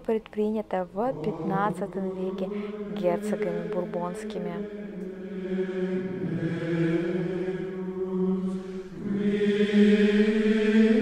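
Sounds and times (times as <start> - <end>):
sacred choral chant: 0.9 - 11.0.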